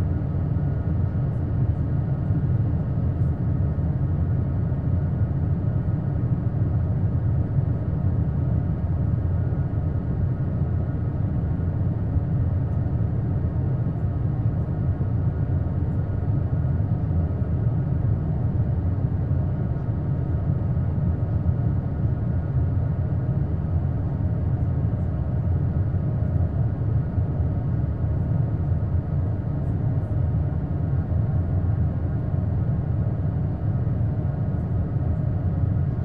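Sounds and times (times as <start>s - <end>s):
jet engine drone in cabin: 0.0s - 36.0s.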